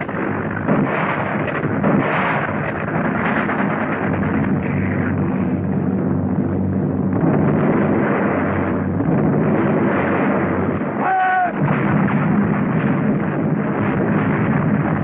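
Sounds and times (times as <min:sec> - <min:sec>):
artillery fire and explosions: 0:00.0 - 0:15.0
low rumble: 0:00.0 - 0:15.0.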